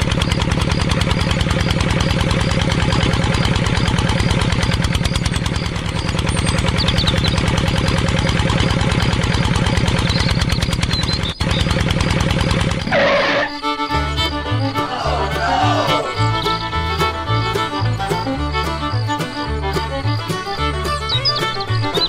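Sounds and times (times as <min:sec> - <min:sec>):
engine idling with chugging beat: 0:00.0 - 0:22.0.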